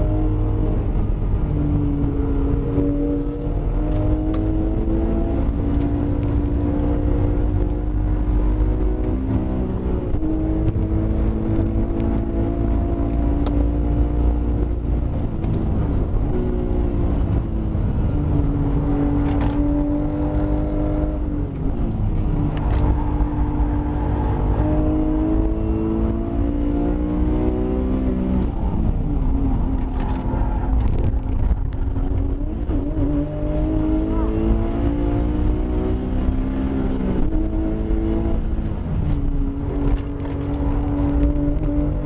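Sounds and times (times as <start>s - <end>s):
car engine at racing speed: 0.0s - 42.0s
road and wind noise: 0.0s - 42.0s.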